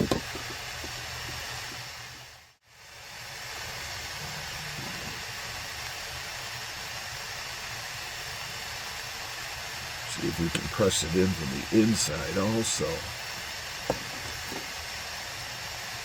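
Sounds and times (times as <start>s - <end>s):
blowing hiss: 0.0s - 16.0s.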